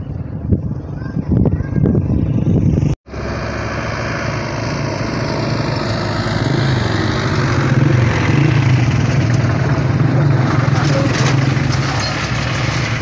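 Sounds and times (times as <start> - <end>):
vehicle engine humming: 2.4 - 13.0.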